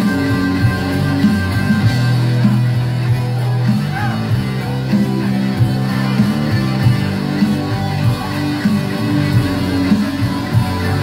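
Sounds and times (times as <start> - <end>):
drums: 0.0 - 11.0
electric guitar: 0.0 - 11.0.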